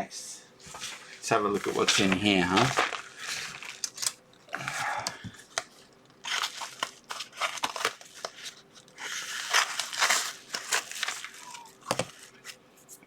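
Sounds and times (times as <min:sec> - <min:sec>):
packaging crinkling and tearing: 0:00.7 - 0:12.6.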